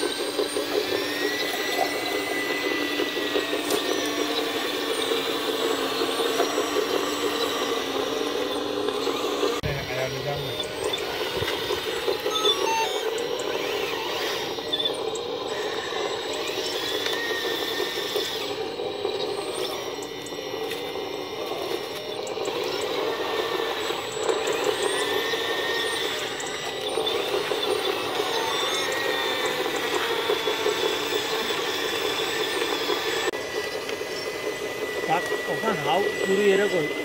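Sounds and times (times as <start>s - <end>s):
electric motors whirring: 0.0s - 37.0s
high motor whine: 0.0s - 37.0s.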